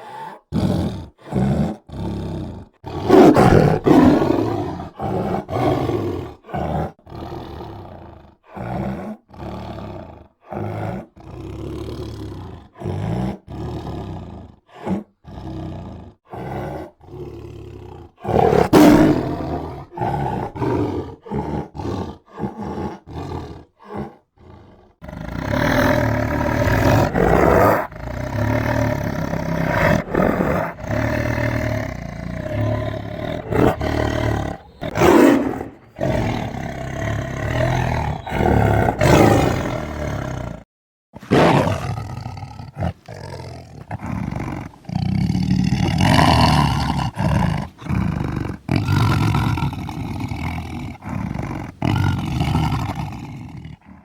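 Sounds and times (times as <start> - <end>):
tiger roaring: 0.0 - 54.0.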